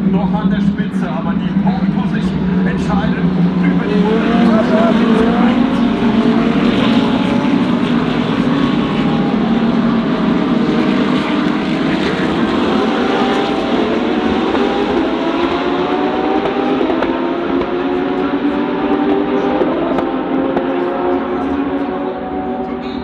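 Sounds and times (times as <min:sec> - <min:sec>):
race car engines droning: 0:00.0 - 0:23.0.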